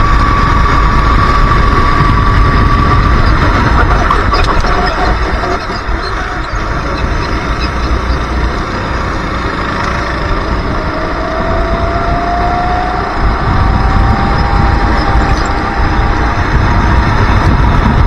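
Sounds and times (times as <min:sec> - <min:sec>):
racing kart engine: 0:00.0 - 0:18.0
wind buffeting microphone: 0:00.0 - 0:18.0.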